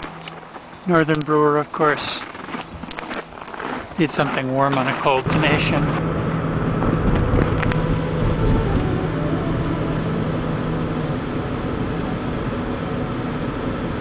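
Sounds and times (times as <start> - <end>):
car engine humming: 0.0 - 14.0
road or wind noise: 0.0 - 14.0.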